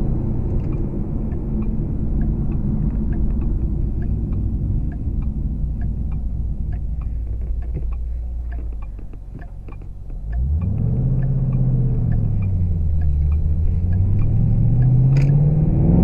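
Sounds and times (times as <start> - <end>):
car engine running from cabin: 0.0 - 16.0
faint light ticks: 0.5 - 15.4.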